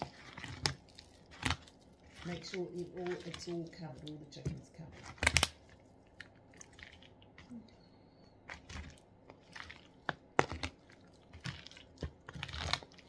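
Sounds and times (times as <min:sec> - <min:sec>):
wet squishes of chicken: 0:00.0 - 0:13.0.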